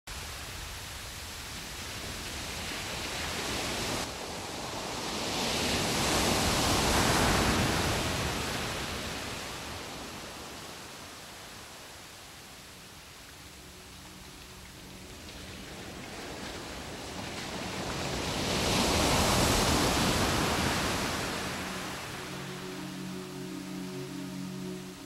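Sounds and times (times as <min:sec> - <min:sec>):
ocean surf rushing: 0:00.2 - 0:25.0.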